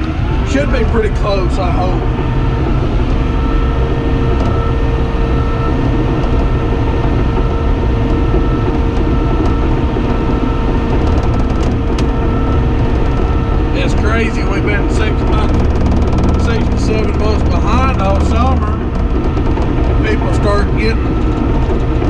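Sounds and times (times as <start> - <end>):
bulldozer diesel engine running: 0.0 - 22.0
steady whine: 0.0 - 22.0.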